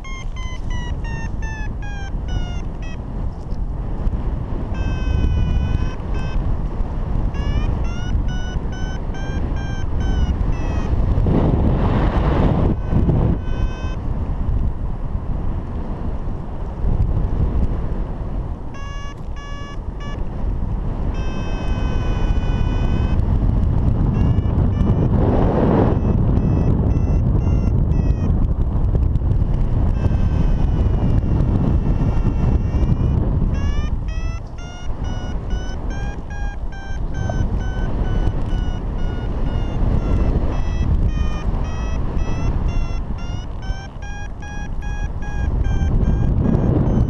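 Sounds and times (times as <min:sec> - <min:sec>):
variometer beeping: 0:00.0 - 0:14.7, 0:18.7 - 0:47.0
wind buffeting microphone: 0:00.0 - 0:47.0.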